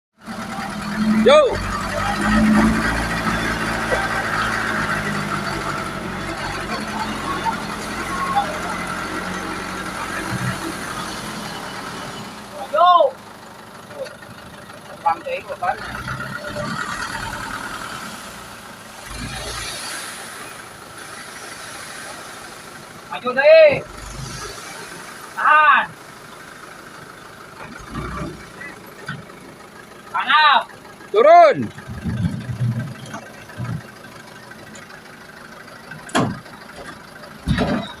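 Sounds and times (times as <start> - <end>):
truck engine rumbling: 0.2 - 38.0.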